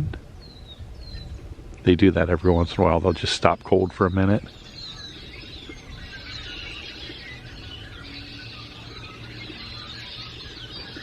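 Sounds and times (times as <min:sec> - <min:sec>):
chorus of many birds calling: 0:00.0 - 0:11.0.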